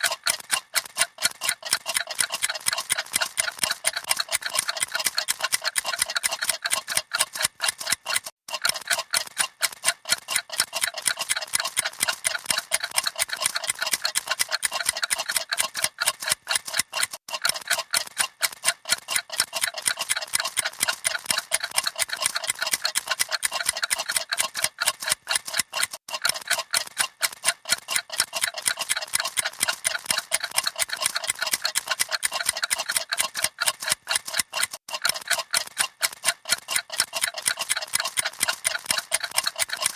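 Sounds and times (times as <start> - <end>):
many clocks ticking: 0.0 - 39.9.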